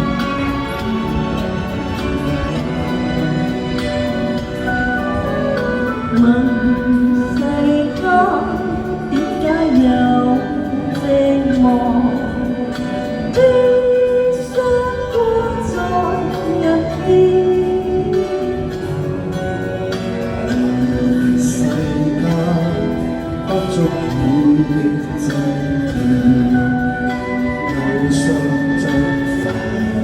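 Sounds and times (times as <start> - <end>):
woman singing wordless melody: 0.0 - 30.0.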